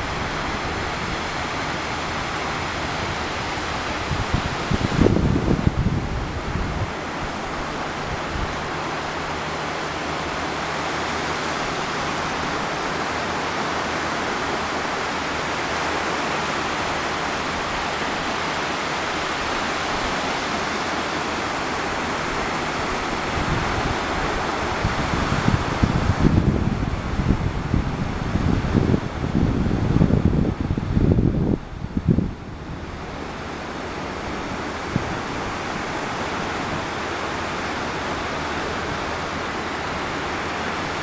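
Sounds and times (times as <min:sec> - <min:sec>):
small waves breaking on shore: 0:00.0 - 0:41.0
wind rumble on microphone: 0:00.0 - 0:41.0.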